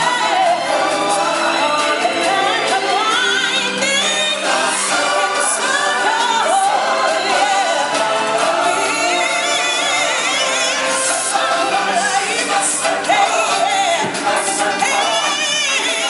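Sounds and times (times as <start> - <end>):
choir singing: 0.0 - 16.0
music: 0.0 - 16.0.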